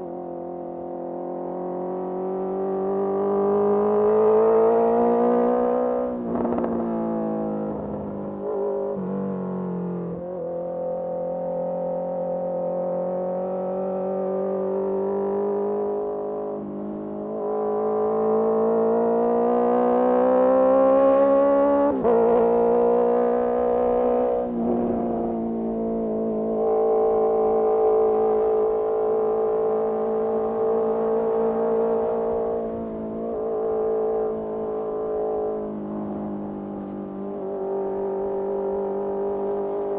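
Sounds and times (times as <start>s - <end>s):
motorcycle engine revving: 1.4s - 39.9s.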